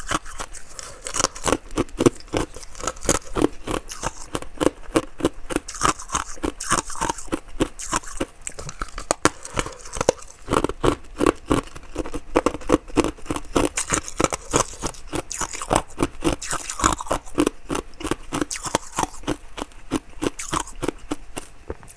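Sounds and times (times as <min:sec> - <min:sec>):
chewing crunchy ice: 0:00.0 - 0:21.6
wet mouth sounds: 0:00.0 - 0:21.9.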